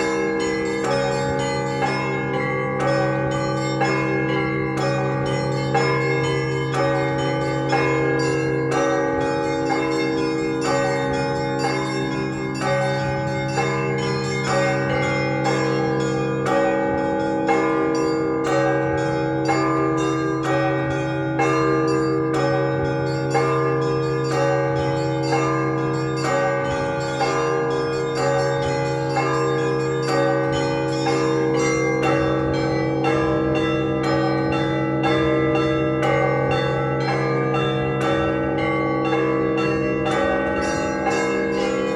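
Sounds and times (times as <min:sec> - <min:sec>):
deep bells ringing: 0:00.0 - 0:41.9.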